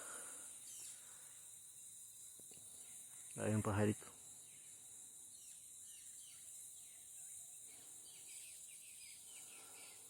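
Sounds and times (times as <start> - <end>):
high insect drone: 0.0 - 10.0
bird chirping: 0.6 - 1.3, 2.1 - 10.0.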